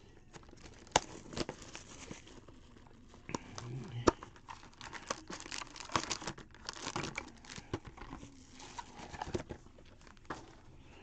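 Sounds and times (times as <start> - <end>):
foil pack crinkling: 0.3 - 10.7.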